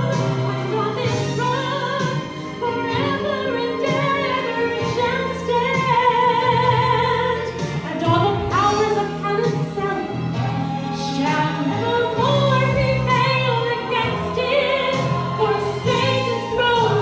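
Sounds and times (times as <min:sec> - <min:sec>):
woman singing into a microphone: 0:00.0 - 0:10.2, 0:10.9 - 0:17.0
instrumental accompaniment: 0:00.0 - 0:17.0.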